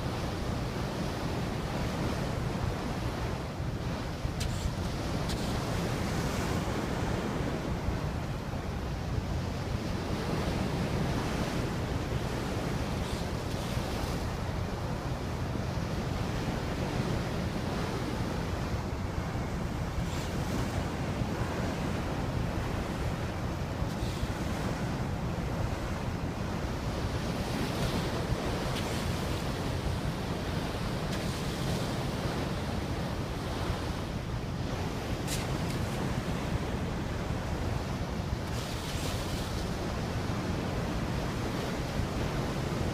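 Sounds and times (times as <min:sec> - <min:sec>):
sea water splashing along hull: 0:00.0 - 0:42.9.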